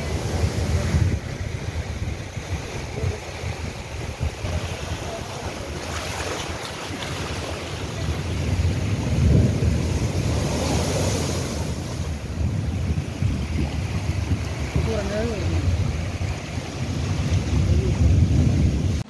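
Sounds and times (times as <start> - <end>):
surf breaking: 0.0 - 18.9
seawater rushing over shore: 0.0 - 19.0
wind buffeting microphone: 0.0 - 19.0.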